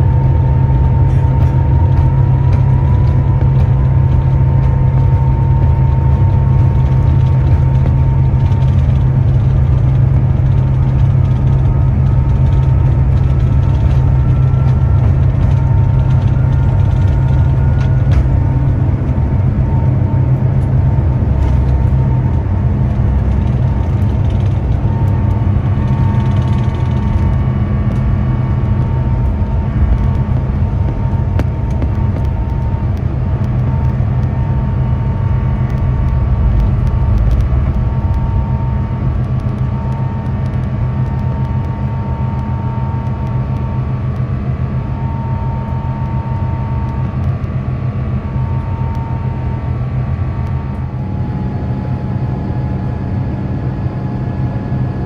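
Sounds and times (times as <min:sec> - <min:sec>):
airliner cabin rumble: 0:00.0 - 0:55.0
faint steady hum: 0:00.0 - 0:55.0.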